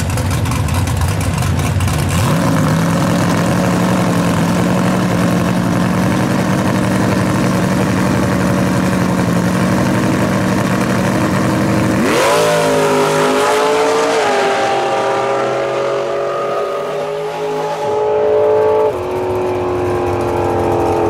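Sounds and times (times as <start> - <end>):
drag car engines at full throttle: 0.0 - 21.0.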